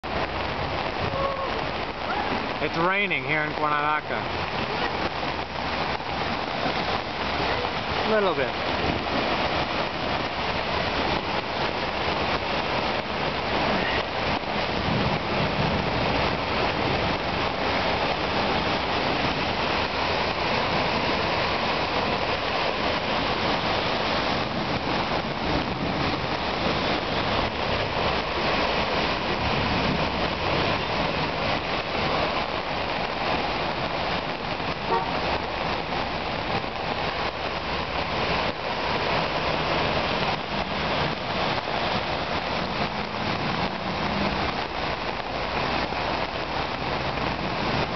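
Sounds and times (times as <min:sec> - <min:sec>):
floodwater rushing down street: 0:00.0 - 0:47.9
heavy rain: 0:00.0 - 0:47.9.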